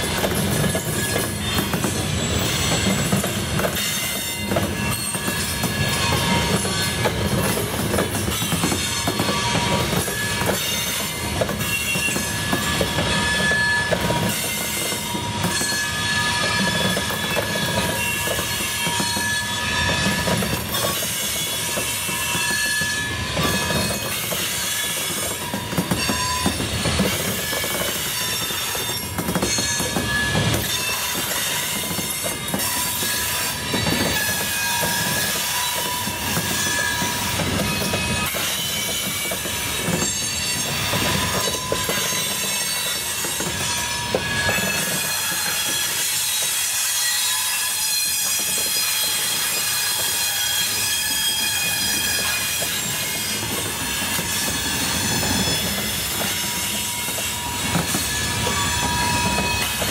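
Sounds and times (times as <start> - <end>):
freight train rumble: 0.0 - 59.9
train wheels squealing: 0.0 - 59.9
wheels clicking on rail joints: 0.0 - 59.9.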